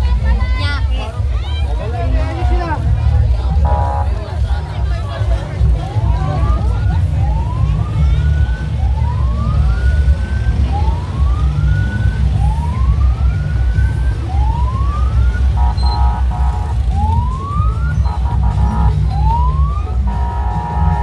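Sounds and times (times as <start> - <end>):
loud bass-heavy beat: 0.0 - 21.0.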